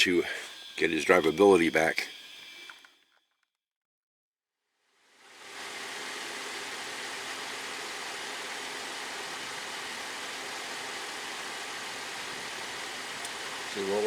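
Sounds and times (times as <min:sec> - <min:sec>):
steady hiss: 0:00.0 - 0:02.9, 0:05.1 - 0:14.0.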